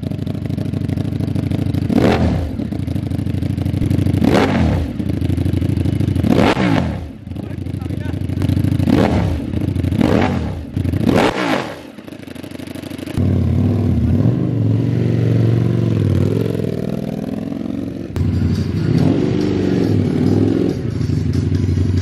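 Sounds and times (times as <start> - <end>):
motorcycle engine revving: 0.0 - 22.0
motorcycle engine running: 0.0 - 22.0.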